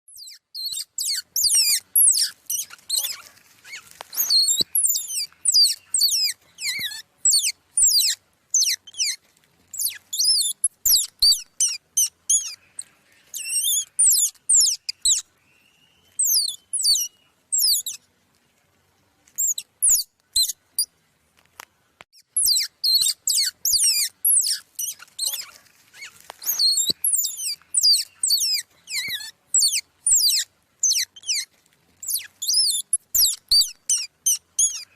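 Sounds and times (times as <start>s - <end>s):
small birds chirping: 0.1s - 21.1s, 21.8s - 34.9s.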